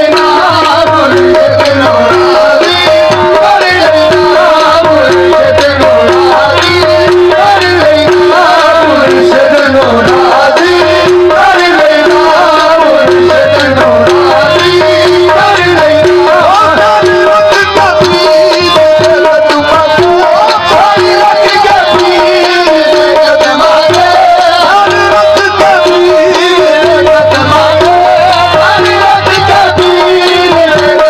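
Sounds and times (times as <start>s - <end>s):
harmonium melody: 0.0s - 31.0s
tabla beat: 0.0s - 31.0s.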